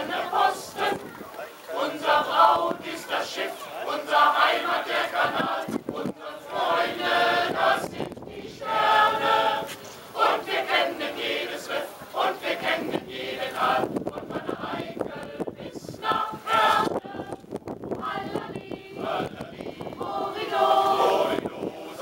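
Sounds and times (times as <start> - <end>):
mixed choir singing: 0.0 - 22.0.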